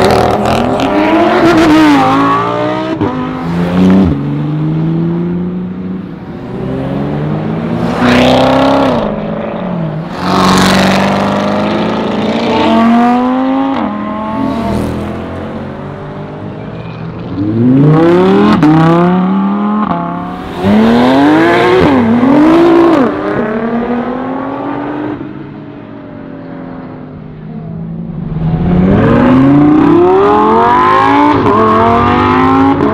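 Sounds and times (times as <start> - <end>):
car engines accelerating hard: 0.0 - 25.6, 26.8 - 32.9.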